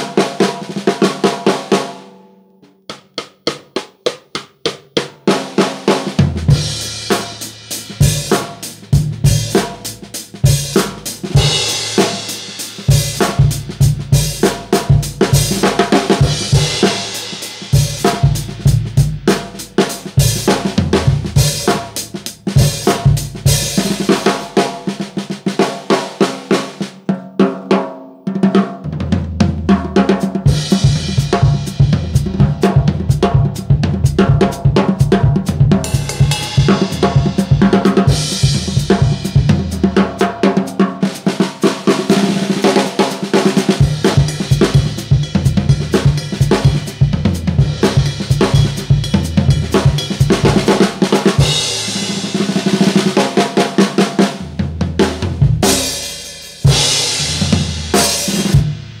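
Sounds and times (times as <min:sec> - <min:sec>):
snare drum grooves and rolls: 0:00.0 - 0:02.0, 0:02.8 - 0:27.6, 0:28.3 - 0:59.0
bass drum: 0:06.0 - 0:25.4, 0:28.8 - 0:40.8, 0:41.9 - 0:53.2, 0:54.2 - 0:59.0.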